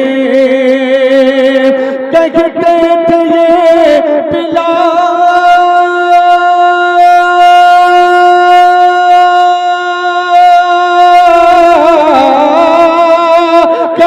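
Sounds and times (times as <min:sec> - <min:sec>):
man singing a long note: 0:00.0 - 0:14.0.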